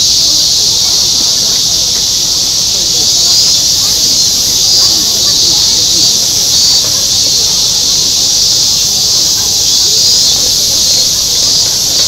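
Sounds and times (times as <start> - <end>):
faint murmur of people: 0.0 - 12.0
insects shrilling: 0.0 - 12.0.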